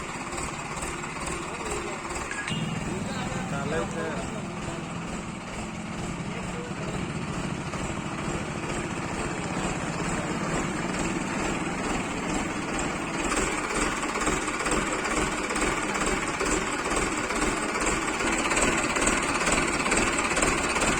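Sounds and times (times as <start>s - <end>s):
engine knocking rhythmically: 0.0s - 20.9s.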